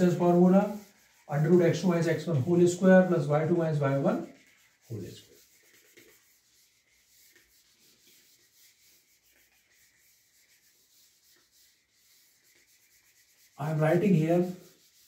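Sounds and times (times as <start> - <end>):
eraser rubbing on whiteboard: 0.0 - 15.0.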